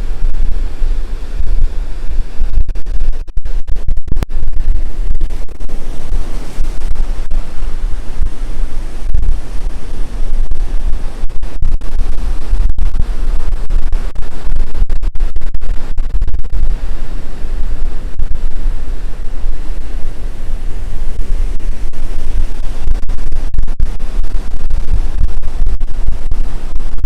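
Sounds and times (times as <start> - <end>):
surf on beach: 0.0 - 27.0
wind buffeting microphone: 0.0 - 27.0.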